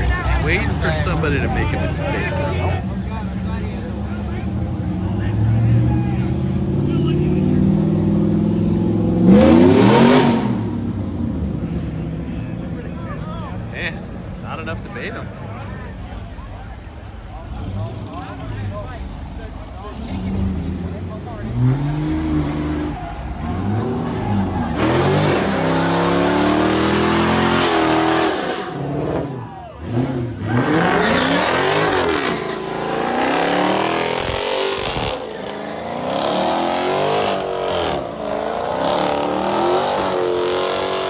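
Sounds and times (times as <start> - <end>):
car engine revving hard: 0.0 - 41.0
tires hissing and squealing: 0.0 - 41.0.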